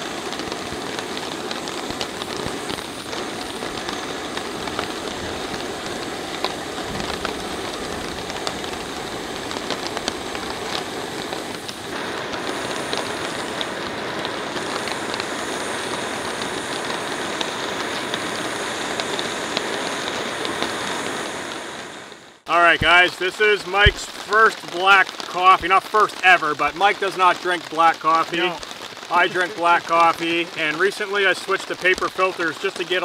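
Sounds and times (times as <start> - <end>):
heavy rain on a tarp: 0.0 - 33.0.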